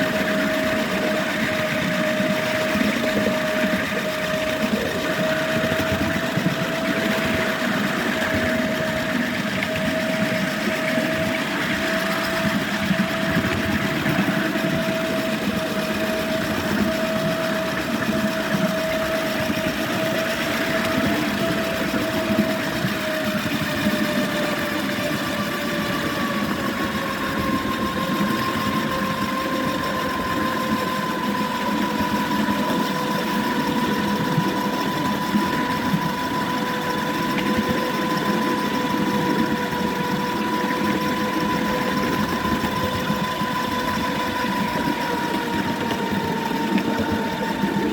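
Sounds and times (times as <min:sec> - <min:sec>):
electric motor whine: 0:00.0 - 0:47.9.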